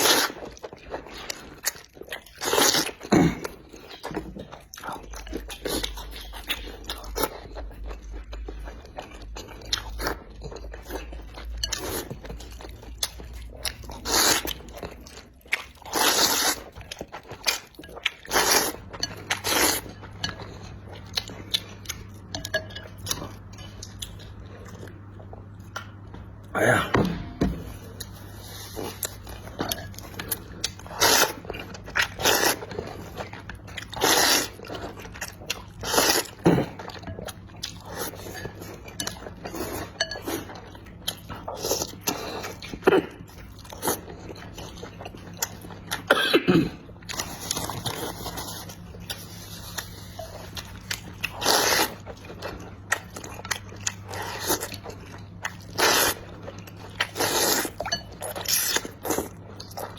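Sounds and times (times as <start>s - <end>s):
person chewing and smacking: 0.0s - 26.5s, 27.2s - 46.1s, 46.8s - 59.9s
low steady hum: 0.0s - 59.9s.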